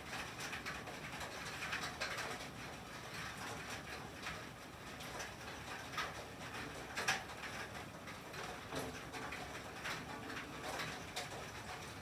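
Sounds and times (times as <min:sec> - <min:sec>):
rain on a tin roof: 0:00.0 - 0:12.0.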